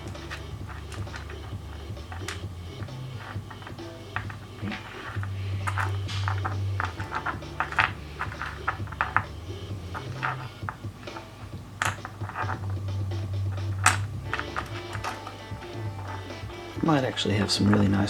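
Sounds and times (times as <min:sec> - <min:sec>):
soft background music: 0:00.0 - 0:18.0
stones knocking together: 0:00.0 - 0:18.0.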